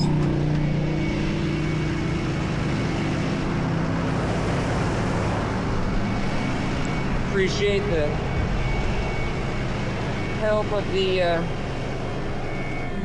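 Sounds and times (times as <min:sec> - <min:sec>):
tow truck engine humming: 0:00.0 - 0:13.0.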